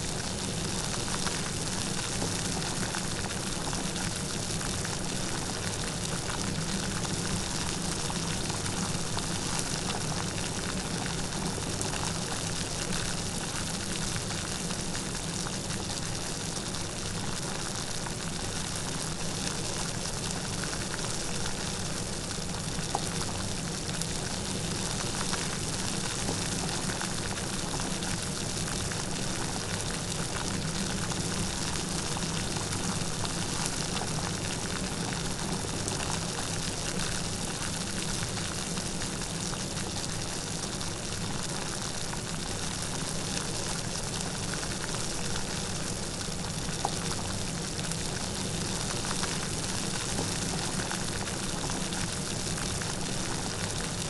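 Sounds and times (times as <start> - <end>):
light steady rain: 0.0 - 54.0.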